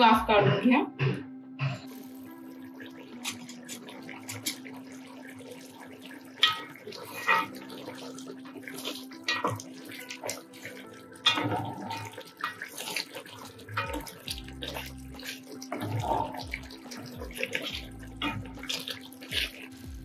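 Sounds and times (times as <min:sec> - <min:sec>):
curry bubbling and popping: 0:01.9 - 0:20.0
spatula scraping pot: 0:03.1 - 0:19.9.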